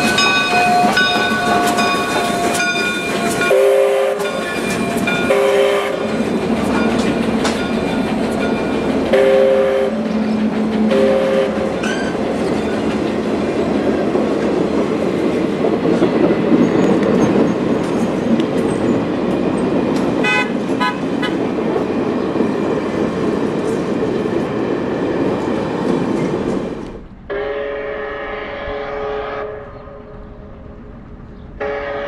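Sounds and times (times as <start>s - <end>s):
train rolling past: 0.0s - 32.0s.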